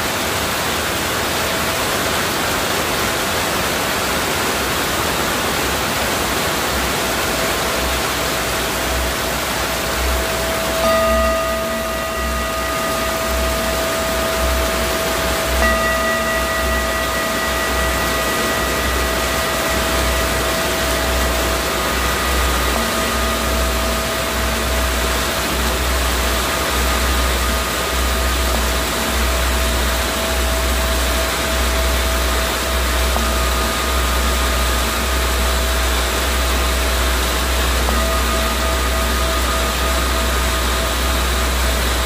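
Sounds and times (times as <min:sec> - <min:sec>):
heavy rain falling: 0:00.0 - 0:42.0
faint steady ringing tone: 0:06.8 - 0:42.0.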